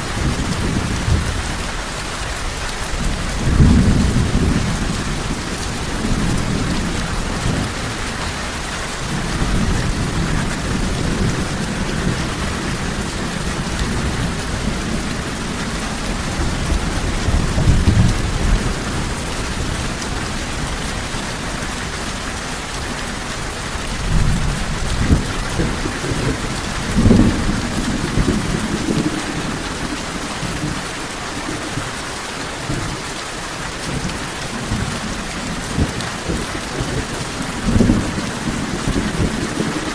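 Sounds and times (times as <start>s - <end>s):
rolling thunder: 0.0s - 31.9s, 33.8s - 39.9s
heavy rain falling: 0.0s - 39.9s.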